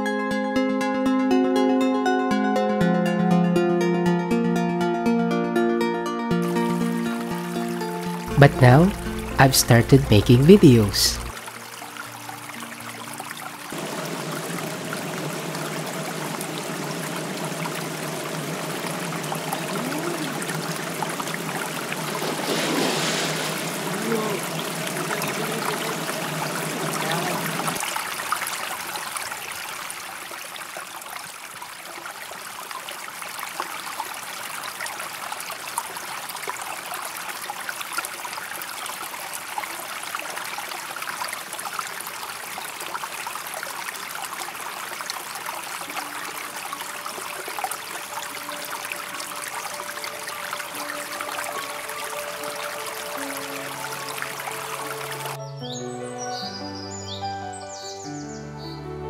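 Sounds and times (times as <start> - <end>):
water rushing: 6.5 - 55.4.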